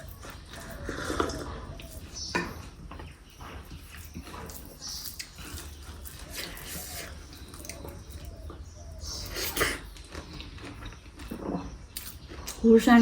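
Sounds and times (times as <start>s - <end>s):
food being chewed: 0.0s - 13.0s.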